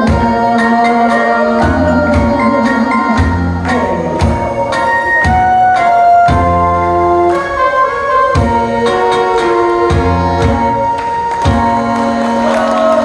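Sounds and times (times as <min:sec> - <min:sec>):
sustained keyboard chords: 0:00.0 - 0:13.0.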